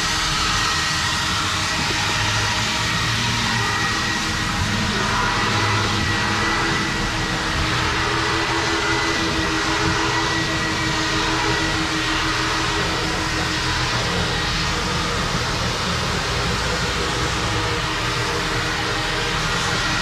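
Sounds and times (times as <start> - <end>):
car wash machinery rushing: 0.0 - 20.0
faint high whine: 0.0 - 20.0.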